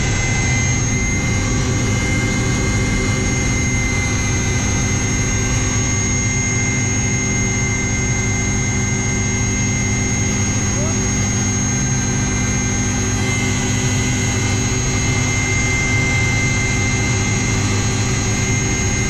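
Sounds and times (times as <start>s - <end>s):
helicopter turbine and rotor drone: 0.0s - 19.0s
high-pitched whines: 0.0s - 19.0s.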